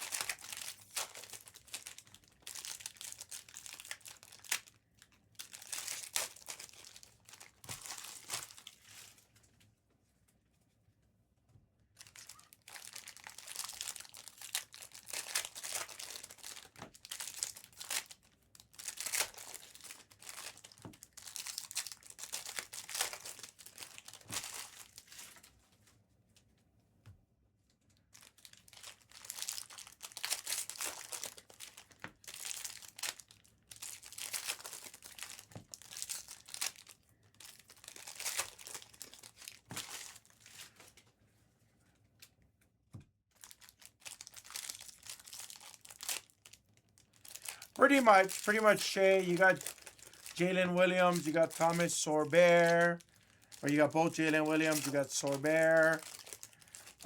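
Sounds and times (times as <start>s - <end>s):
plastic wrapping crinkling and tearing: 0.0s - 9.4s, 12.0s - 25.5s, 28.1s - 41.0s, 43.4s - 57.0s.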